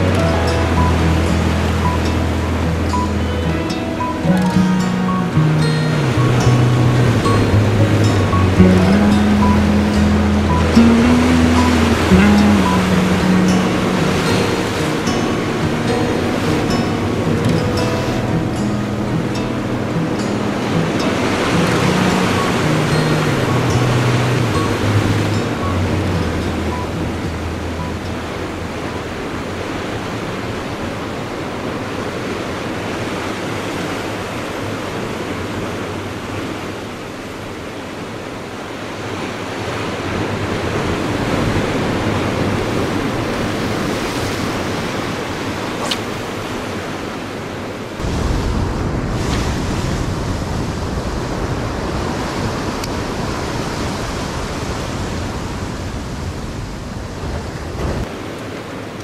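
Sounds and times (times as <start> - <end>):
waves washing against rocks: 5.7 - 59.0.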